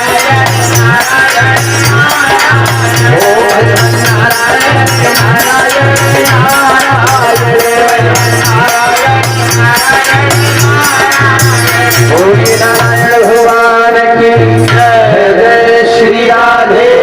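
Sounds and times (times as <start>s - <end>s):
hand drum beat: 0.0s - 13.6s.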